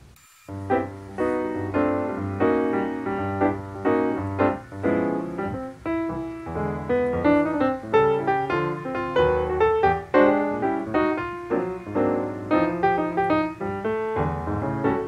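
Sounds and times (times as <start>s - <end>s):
keyboard chords: 0.5s - 15.0s.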